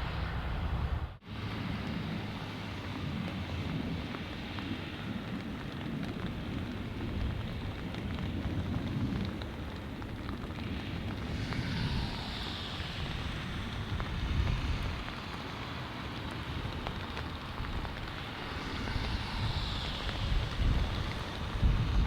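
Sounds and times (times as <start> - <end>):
jet airliner engines rumbling: 0.0 - 22.0
wind on the microphone: 0.0 - 22.0
steady rain: 0.1 - 22.0.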